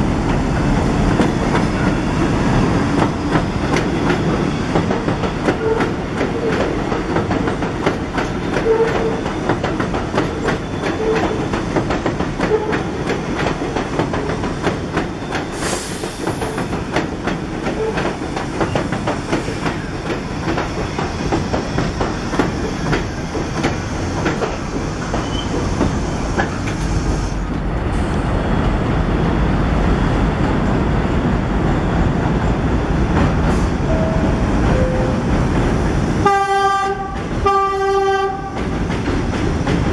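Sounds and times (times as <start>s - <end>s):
train wheels clattering on rails: 0.0s - 28.8s, 32.9s - 39.9s
train rumble: 0.0s - 39.9s.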